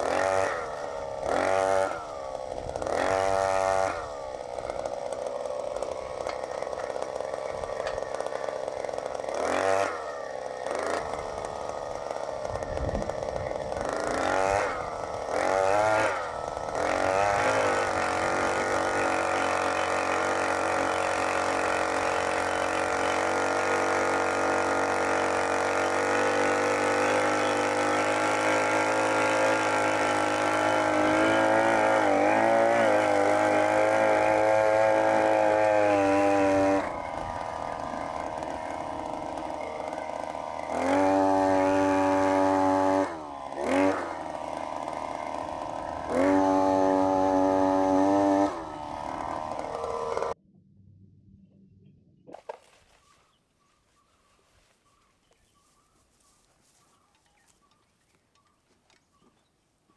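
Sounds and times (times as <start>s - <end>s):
auger drilling into soil: 0.0s - 50.4s
earth auger engine revving: 0.0s - 50.4s.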